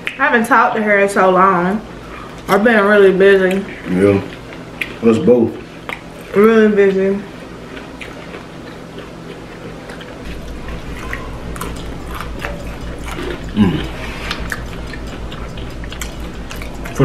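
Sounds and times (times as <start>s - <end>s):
low steady hum: 0.0s - 17.0s
chewing with wet mouth smacks: 3.3s - 17.0s.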